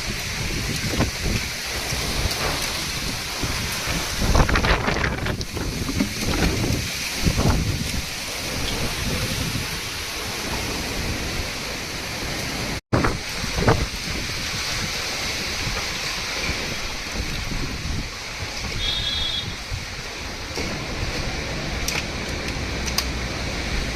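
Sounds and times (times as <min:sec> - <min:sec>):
gusts buffeting microphone: 0:00.0 - 0:23.9
storm wind with rain: 0:00.0 - 0:23.9.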